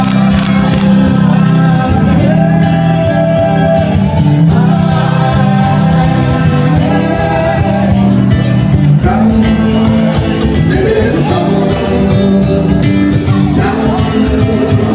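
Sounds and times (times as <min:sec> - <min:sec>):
guitar: 0:00.0 - 0:14.9
person singing: 0:00.0 - 0:14.9.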